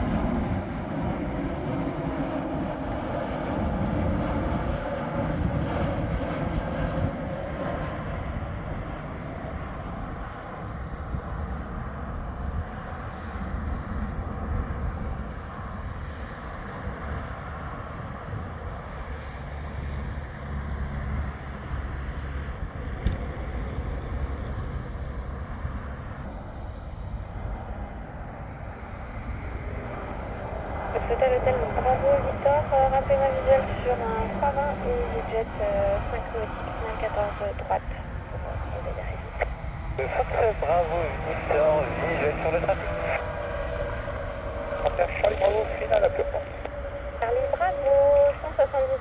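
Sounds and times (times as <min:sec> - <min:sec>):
jet engines rumbling: 0:00.0 - 0:49.0.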